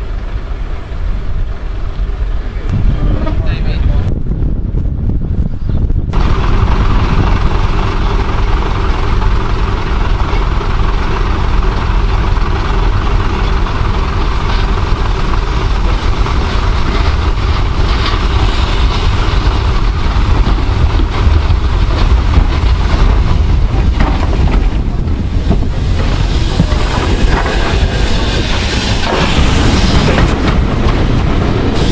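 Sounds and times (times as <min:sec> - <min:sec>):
diesel engines idling: 0:06.1 - 0:31.9
steam locomotive knocks: 0:06.2 - 0:31.9.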